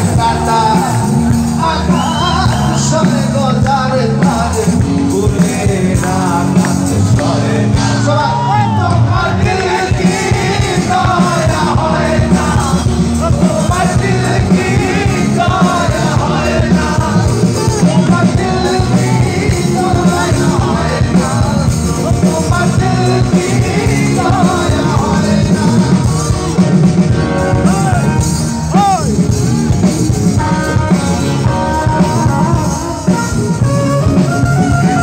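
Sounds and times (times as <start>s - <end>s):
man singing: 0.0s - 29.3s, 30.2s - 35.0s
live rock band: 0.0s - 35.0s.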